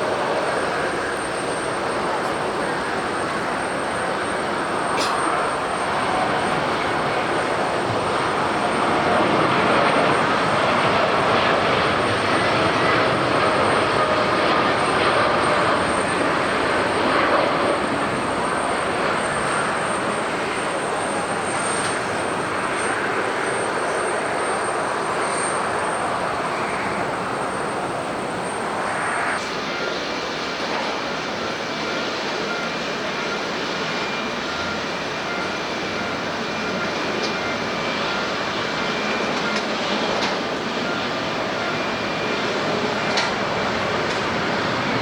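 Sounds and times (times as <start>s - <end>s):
engine whine: 0.0s - 45.0s
jet engines roaring: 0.0s - 45.0s.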